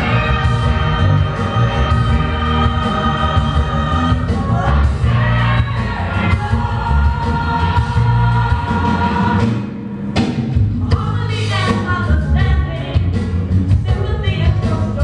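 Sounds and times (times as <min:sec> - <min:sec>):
loud music with singing: 0:00.0 - 0:15.0.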